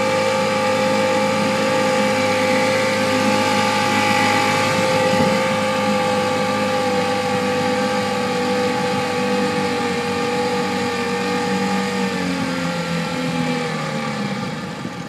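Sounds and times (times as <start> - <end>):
outboard motor running: 0.0 - 15.0
wind and water hiss: 0.0 - 15.0.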